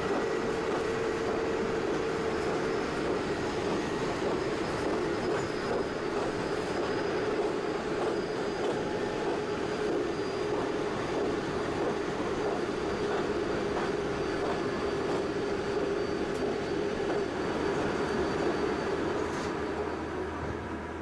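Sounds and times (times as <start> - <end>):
train hum: 0.0 - 21.0
train rumbling on rails: 0.0 - 21.0.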